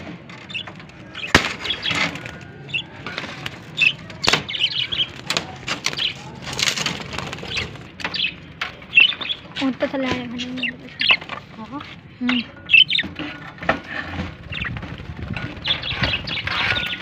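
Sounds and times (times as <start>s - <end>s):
cage wood and wire rattling: 0.0s - 17.0s
budgerigars chirping: 0.3s - 13.3s, 14.2s - 17.0s.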